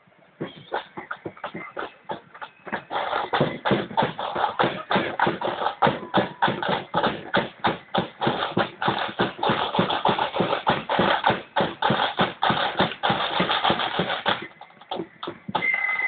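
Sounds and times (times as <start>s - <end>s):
marching drums beating: 0.4s - 15.8s.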